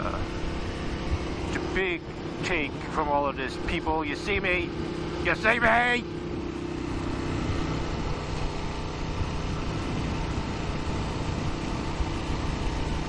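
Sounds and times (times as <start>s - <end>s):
motorcycle engine cruising: 0.0s - 13.0s
wind rushing over microphone: 0.2s - 3.9s, 6.2s - 13.0s.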